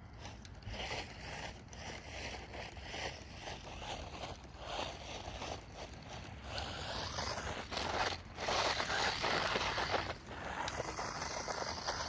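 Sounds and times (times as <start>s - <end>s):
rc car tyres crunching on gravel: 0.0s - 12.0s.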